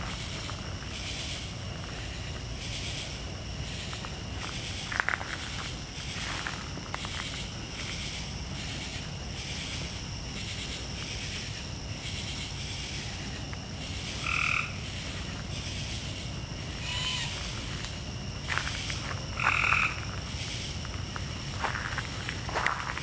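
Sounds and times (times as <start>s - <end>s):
frogs calling: 0.0s - 23.0s.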